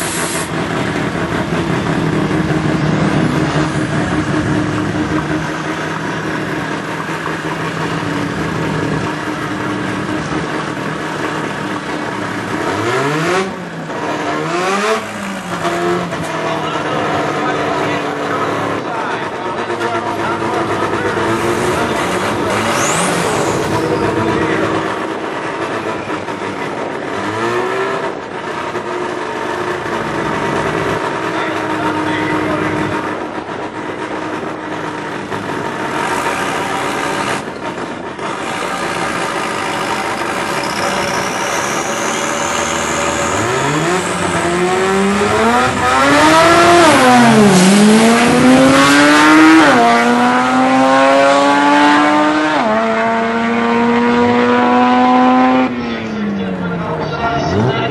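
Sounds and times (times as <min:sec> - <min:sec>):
drag car engine revving: 0:00.0 - 0:57.9.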